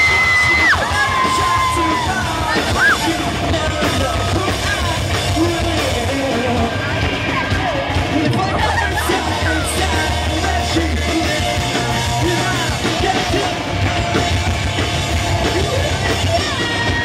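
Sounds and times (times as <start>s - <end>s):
person singing: 0.0s - 13.6s
rock band playing: 0.0s - 17.0s.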